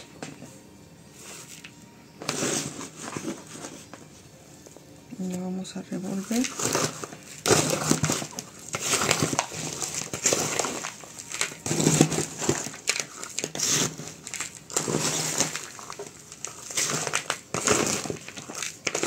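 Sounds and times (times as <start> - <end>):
scoop scraping potting mix: 0.0 - 4.4, 5.1 - 19.0.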